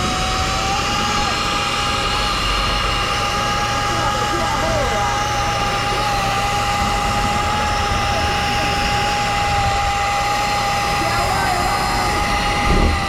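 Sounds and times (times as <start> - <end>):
motor drone with high whine: 0.0 - 13.0.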